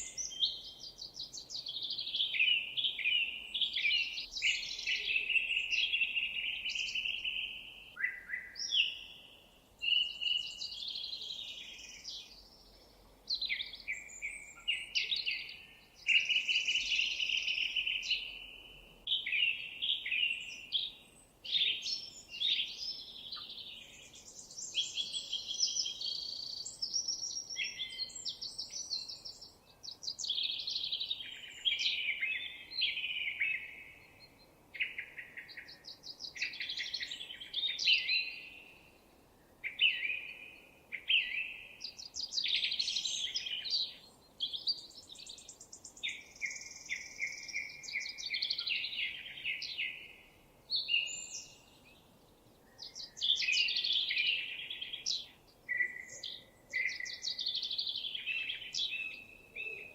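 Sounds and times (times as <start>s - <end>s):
faint background hiss: 0.0s - 59.9s
songbirds singing: 0.0s - 59.9s.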